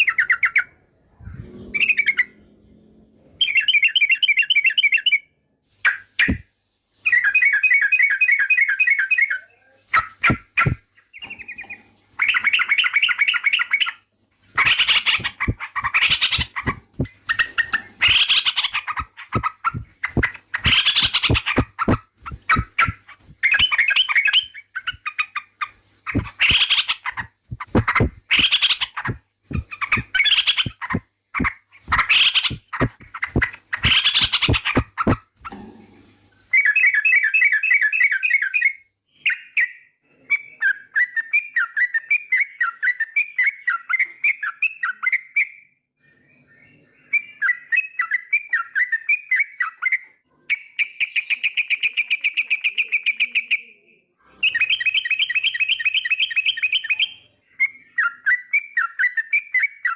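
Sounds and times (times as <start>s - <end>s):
bird singing chattering calls and trills: 0.0s - 35.7s, 36.5s - 45.7s, 46.6s - 59.9s.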